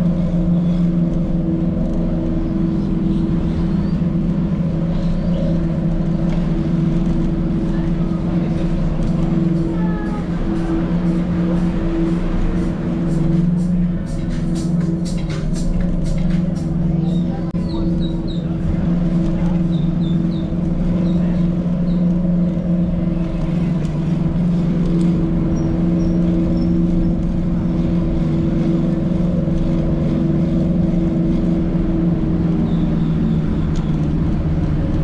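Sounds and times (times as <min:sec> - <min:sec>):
rough low rumble: 0:00.0 - 0:35.0
traffic hum: 0:00.0 - 0:35.0.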